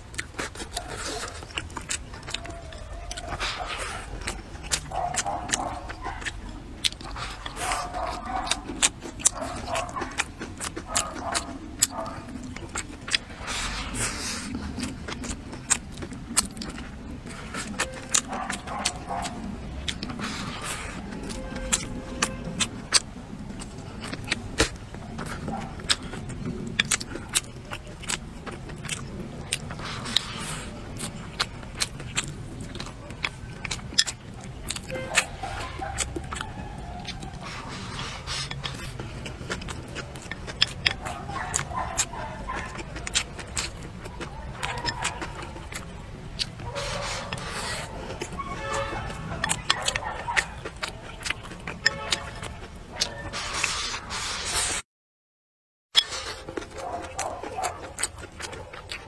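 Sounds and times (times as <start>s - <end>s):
eating clicks and crunches: 0.0s - 54.8s, 56.0s - 59.0s
wet chewing and slurping: 0.0s - 54.8s, 56.0s - 59.0s.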